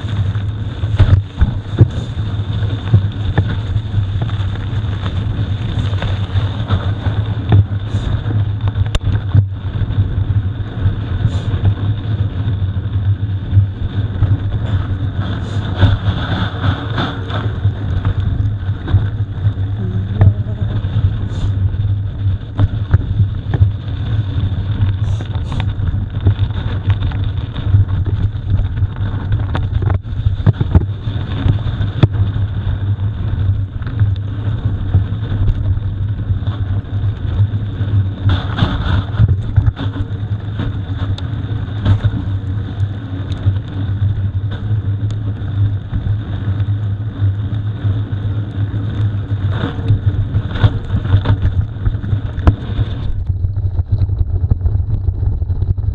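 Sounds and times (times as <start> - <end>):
bike rumble over rough ground: 0.0 - 55.9.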